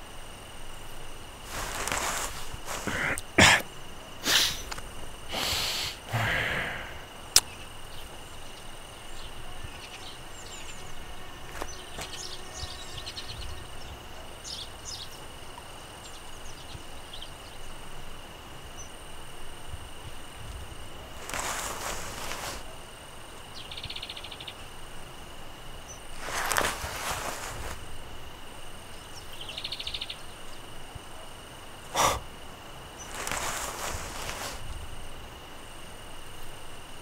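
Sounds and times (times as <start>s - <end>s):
high insect drone: 0.0s - 37.0s
insect chirps: 0.0s - 37.0s.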